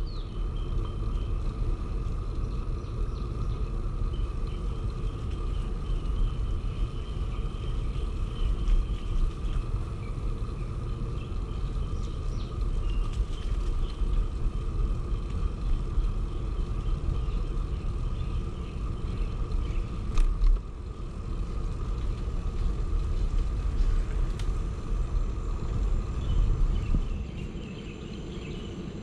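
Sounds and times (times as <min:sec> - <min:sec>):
faint steady whine: 0:00.0 - 0:29.0
wind buffeting microphone: 0:00.0 - 0:29.0.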